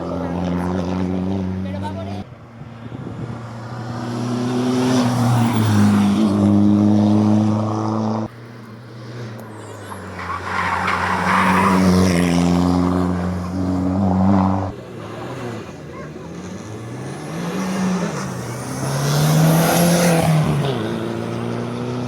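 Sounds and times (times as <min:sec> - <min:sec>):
race cars accelerating hard: 0:00.0 - 0:22.0.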